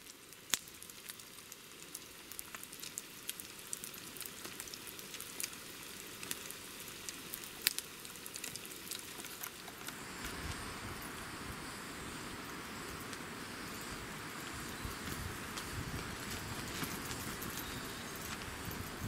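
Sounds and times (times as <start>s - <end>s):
sharp pops and crackles: 0.0s - 10.7s, 14.4s - 19.0s
potatoes sizzling in fat: 0.0s - 19.0s.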